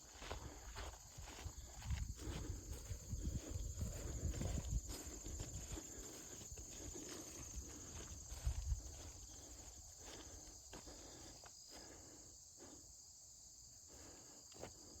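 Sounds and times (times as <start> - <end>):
soft footsteps on trail: 0.0 - 13.0, 13.6 - 15.0
high-pitched insect chorus: 0.0 - 15.0.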